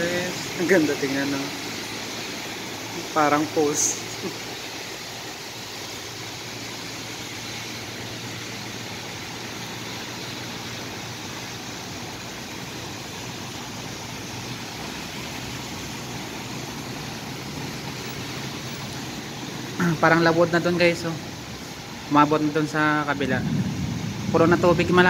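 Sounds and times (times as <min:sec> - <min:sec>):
rain hissing: 0:00.0 - 0:25.0
tyres on a flooded road: 0:00.0 - 0:25.0.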